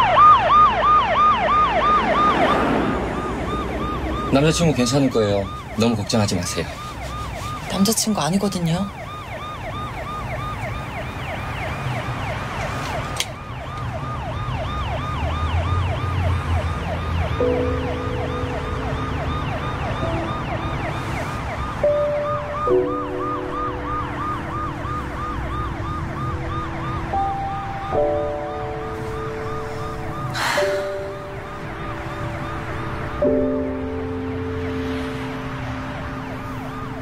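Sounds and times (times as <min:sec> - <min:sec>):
ambulance siren yelping: 0:00.0 - 0:37.0
low road rumble: 0:00.0 - 0:37.0.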